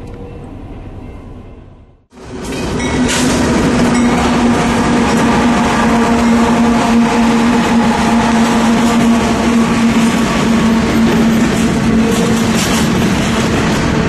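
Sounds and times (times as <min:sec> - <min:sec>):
train wheels rumbling: 0:02.1 - 0:14.0.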